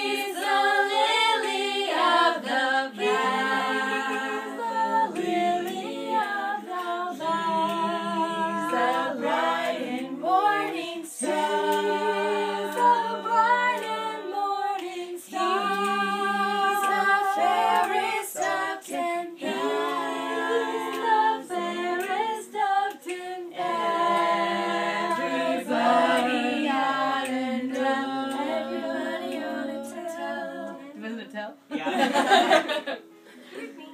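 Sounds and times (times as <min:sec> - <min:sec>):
people singing unaccompanied: 0:00.0 - 0:33.9.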